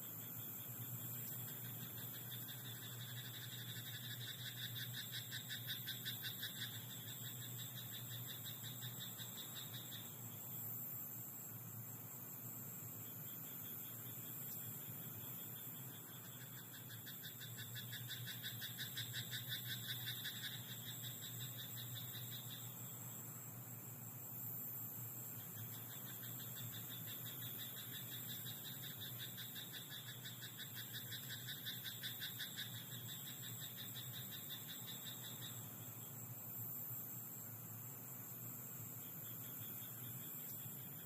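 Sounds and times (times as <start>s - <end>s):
frogs croaking: 0.0s - 23.7s, 24.6s - 41.0s.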